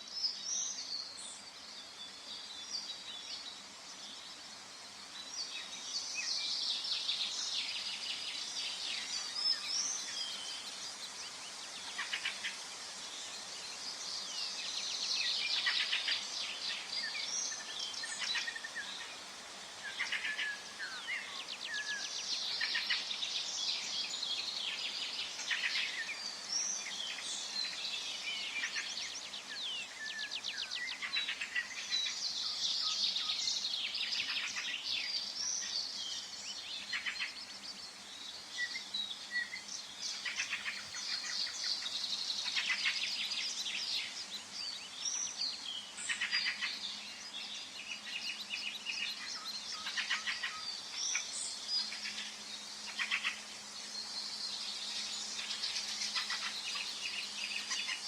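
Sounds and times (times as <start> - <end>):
birds singing and calling: 0.0 - 58.0
soft steady background hiss: 0.0 - 58.0.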